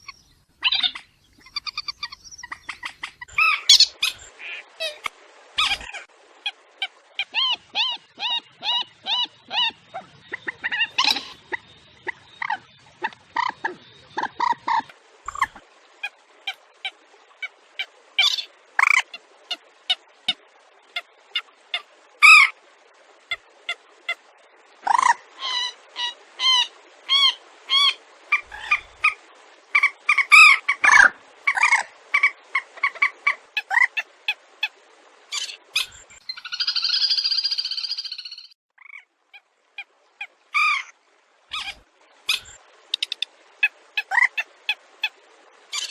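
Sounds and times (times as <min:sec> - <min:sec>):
wetland birds calling: 0:00.0 - 0:22.5, 0:23.3 - 0:39.1, 0:39.8 - 0:40.9, 0:41.5 - 0:45.9.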